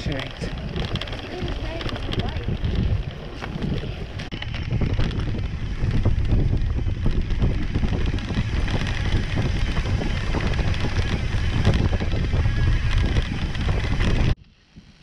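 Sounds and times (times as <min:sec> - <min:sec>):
bike knocks and rattles: 0:00.0 - 0:15.0
wind buffeting microphone: 0:00.0 - 0:15.0.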